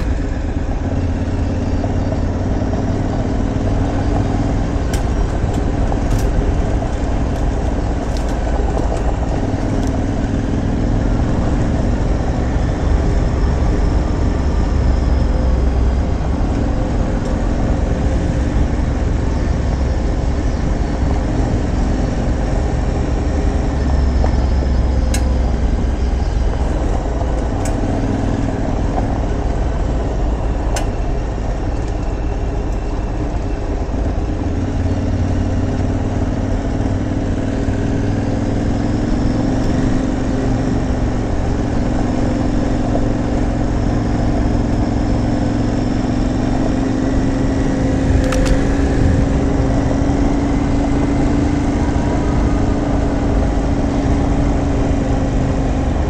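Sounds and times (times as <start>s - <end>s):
motorcycle engine revving: 0.0s - 56.0s
rush of wind noise: 0.0s - 56.0s.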